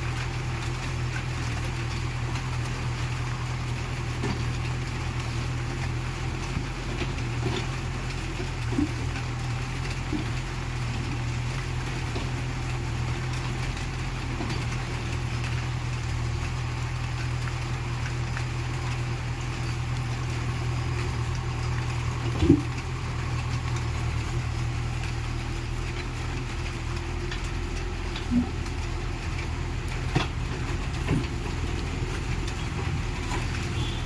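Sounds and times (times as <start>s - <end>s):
diesel engine running at low revs: 0.0s - 34.0s.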